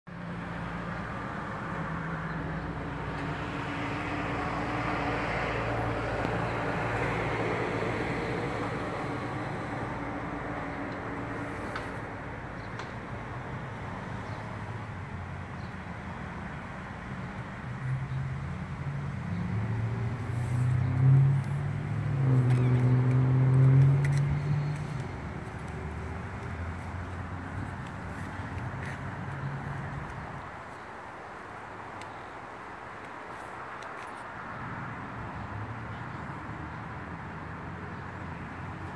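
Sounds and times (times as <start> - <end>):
traffic engine rumble: 0.1 - 38.9.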